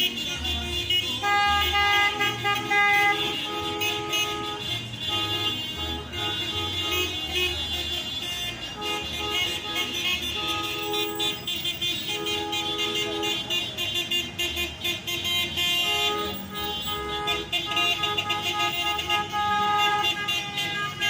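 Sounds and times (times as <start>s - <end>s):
car horns honking: 0.0s - 21.0s
passing cars: 0.0s - 21.0s.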